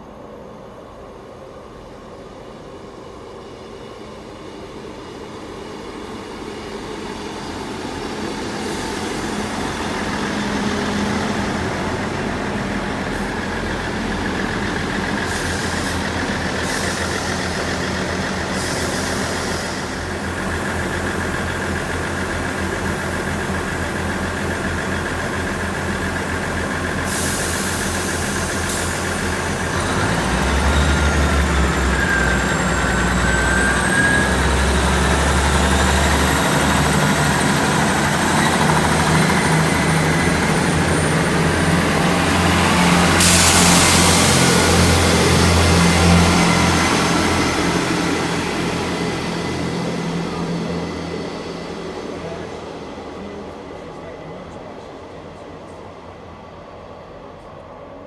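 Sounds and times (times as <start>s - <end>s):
diesel train engine hum: 0.0s - 58.0s.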